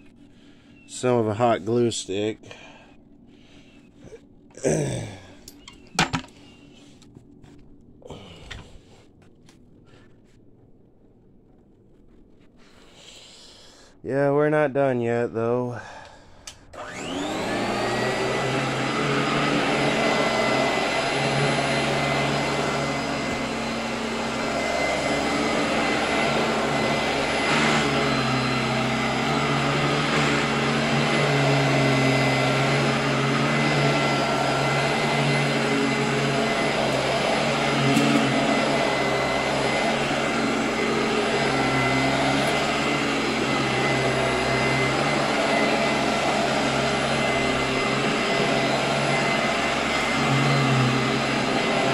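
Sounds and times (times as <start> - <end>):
vacuum cleaner running: 0.0 - 8.4, 15.8 - 51.9.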